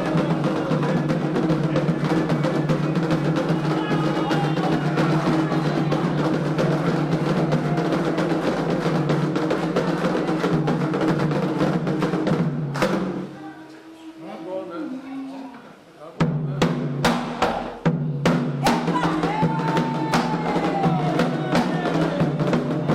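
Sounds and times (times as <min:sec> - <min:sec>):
drums in fast rhythm: 0:00.0 - 0:13.4, 0:16.2 - 0:22.9.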